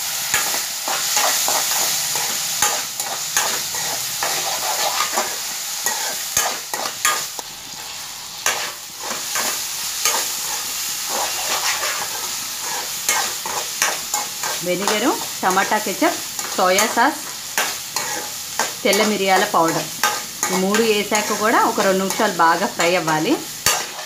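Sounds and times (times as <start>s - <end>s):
vegetables sizzling in oil: 0.0s - 24.0s
metal ladle scraping a pan: 0.4s - 7.3s, 7.9s - 24.0s.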